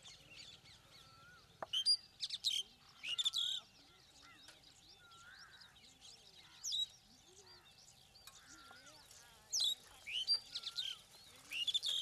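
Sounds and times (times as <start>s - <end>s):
starlings whistling and chattering: 0.0s - 12.0s.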